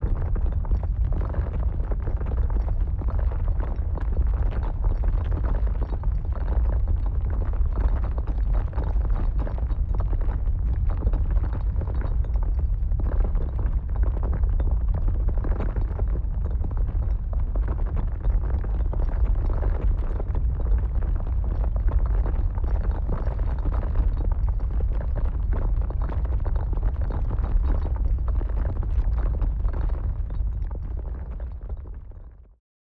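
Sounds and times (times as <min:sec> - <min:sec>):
deep earthquake rumble: 0:00.0 - 0:32.6.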